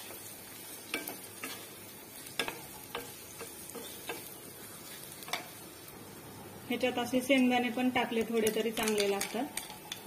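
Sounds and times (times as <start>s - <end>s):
frying sizzle: 0.0s - 10.0s.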